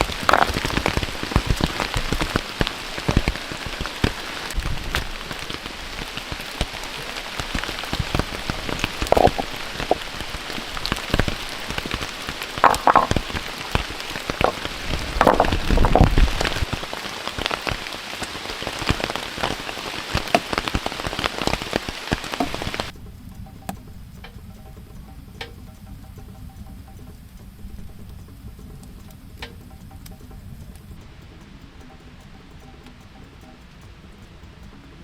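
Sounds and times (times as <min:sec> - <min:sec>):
rain pattering: 0:00.0 - 0:35.0.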